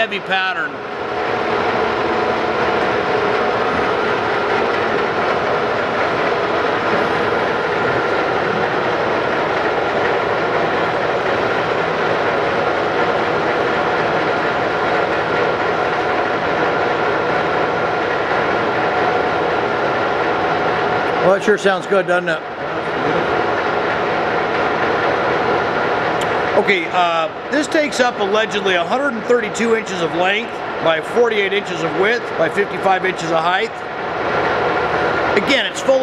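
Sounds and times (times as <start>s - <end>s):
lathe whirring: 0.0s - 36.0s.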